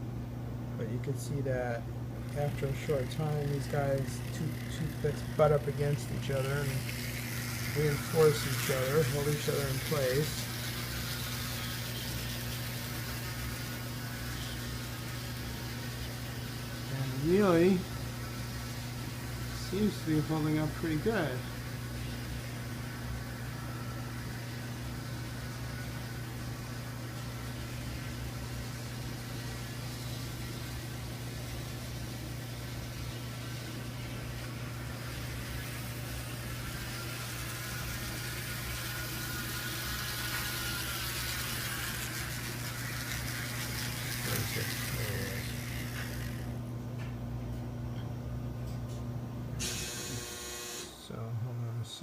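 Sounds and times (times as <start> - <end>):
model train electric hum: 0.8 - 47.2, 49.6 - 52.0
wheels hissing on rails: 2.4 - 46.5.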